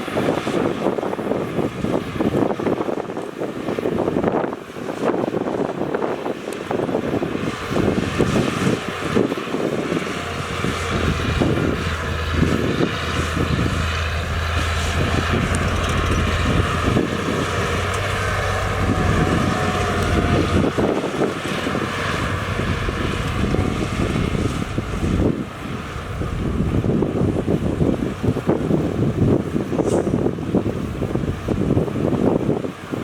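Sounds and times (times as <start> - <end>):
wind buffeting microphone: 0.0 - 33.0
heavy diesel engine running: 6.4 - 33.0.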